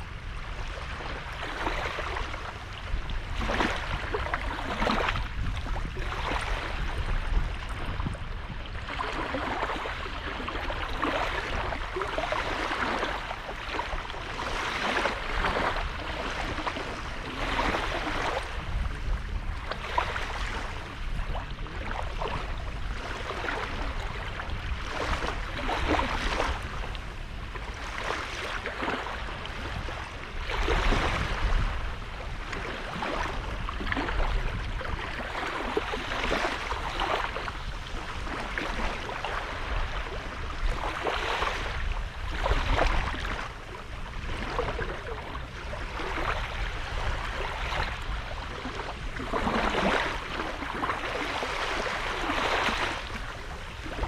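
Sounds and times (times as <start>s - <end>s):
small waves splashing on beach: 0.0s - 54.0s.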